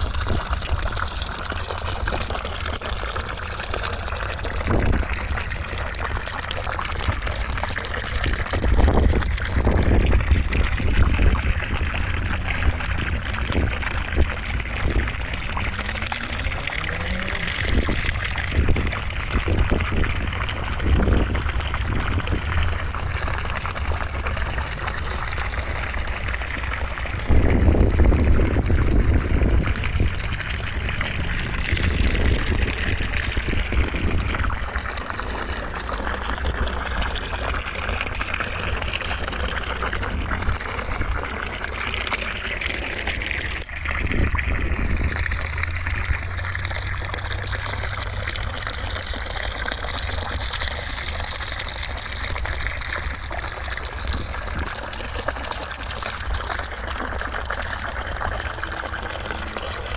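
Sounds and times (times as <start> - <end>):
running water gushing: 0.0 - 59.9.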